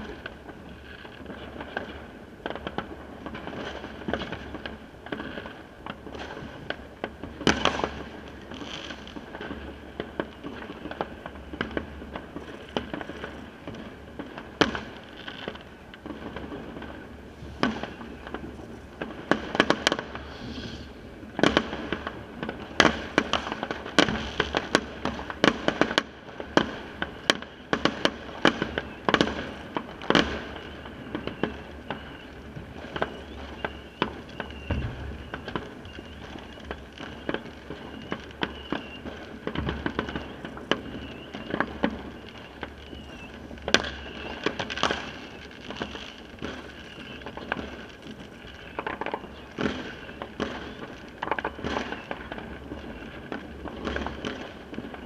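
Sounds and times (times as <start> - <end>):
fireworks and firecrackers banging: 0.0 - 55.0.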